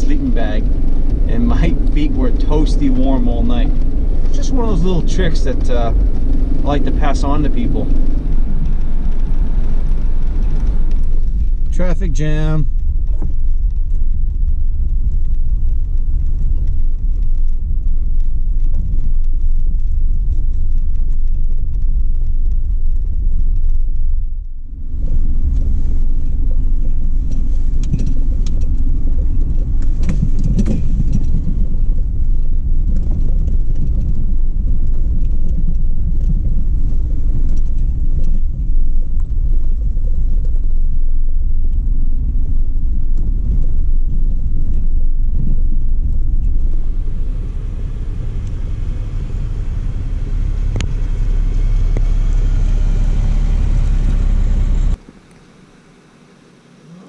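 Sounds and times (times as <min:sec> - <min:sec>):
engine and tyres rumbling on snow: 0:00.0 - 0:57.0.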